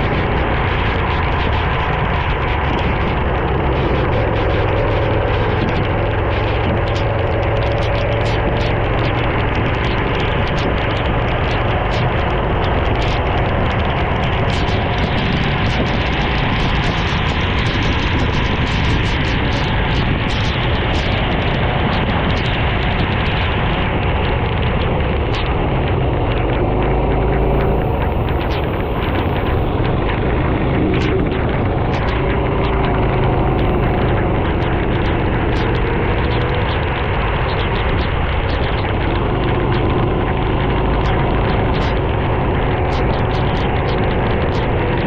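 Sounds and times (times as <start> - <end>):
engine crackles: 0.0 - 45.0
kart engine running: 0.0 - 45.0
wind and rain noise: 0.0 - 45.0.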